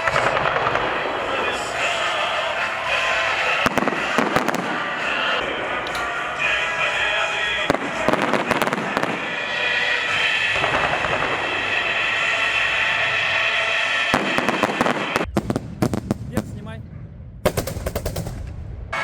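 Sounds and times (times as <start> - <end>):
fireworks crackling: 0.0 - 16.8
fireworks bangs: 0.0 - 19.0.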